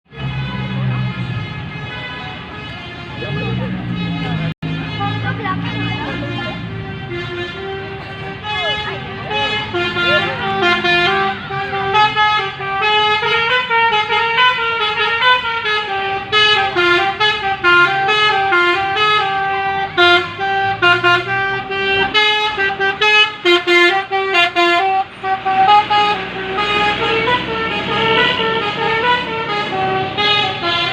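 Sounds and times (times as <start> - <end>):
multi-tone bus horn tune: 0.1 - 30.9.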